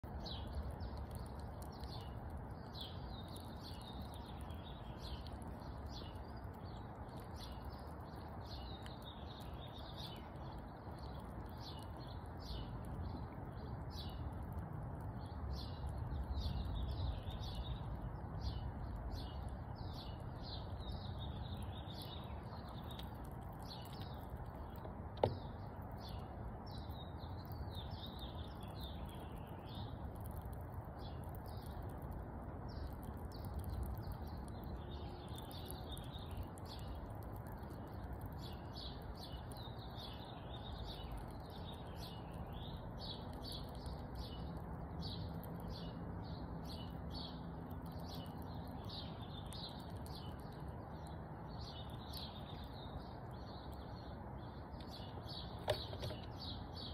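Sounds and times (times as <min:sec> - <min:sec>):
low background hum: 0:00.0 - 0:56.9
small birds chirping: 0:00.0 - 0:56.9.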